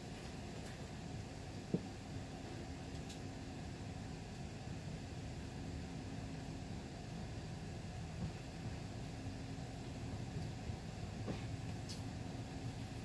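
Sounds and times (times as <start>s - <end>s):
faint steady hum: 0.0s - 13.0s
train carriage rumble: 0.0s - 13.0s.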